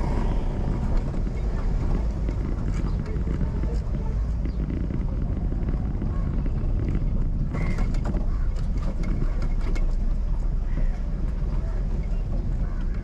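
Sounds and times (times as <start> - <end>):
car driving rumble: 0.0 - 13.0
road and wind noise: 0.0 - 13.0.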